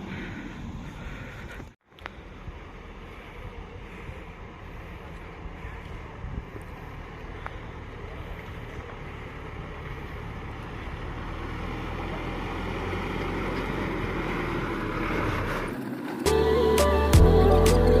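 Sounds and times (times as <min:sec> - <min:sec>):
road noise: 0:00.0 - 0:18.0
truck engine: 0:00.0 - 0:18.0.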